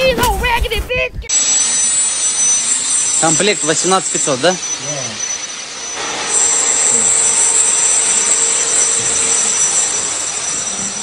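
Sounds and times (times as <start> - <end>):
handheld vacuum motor whining: 1.3 - 11.0.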